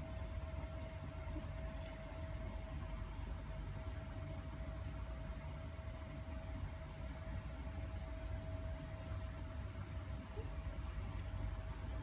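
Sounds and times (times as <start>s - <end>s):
faint steady whine: 0.0s - 12.0s
low background hum: 0.0s - 12.0s.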